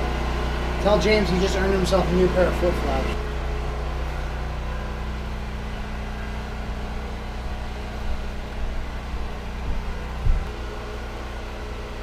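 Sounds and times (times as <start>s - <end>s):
water pump motor hum: 0.0s - 12.0s.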